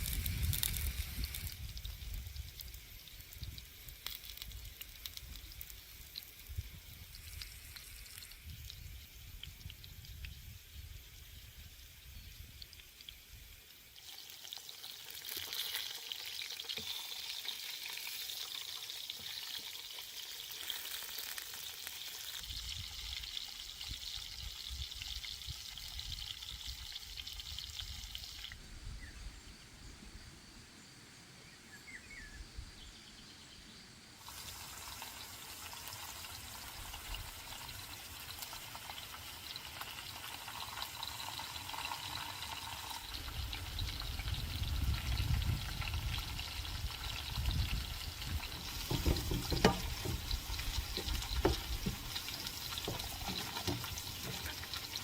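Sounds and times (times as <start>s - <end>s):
food sizzling in hot oil: 0.0s - 28.6s, 34.2s - 55.0s.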